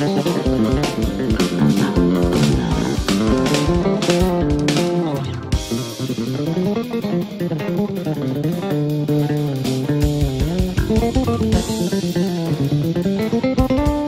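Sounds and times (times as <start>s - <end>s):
guitar and bass music: 0.0s - 14.0s
steady drum beat: 0.0s - 14.0s.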